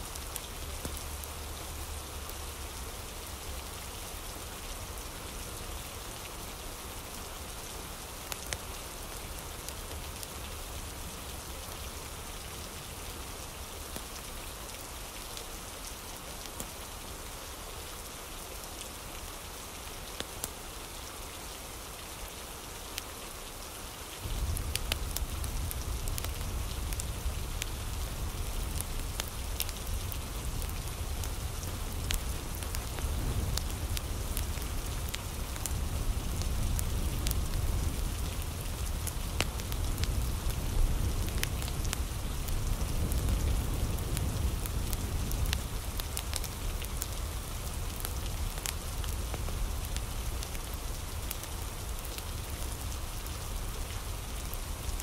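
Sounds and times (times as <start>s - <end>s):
rain hissing on surface: 0.0s - 55.0s.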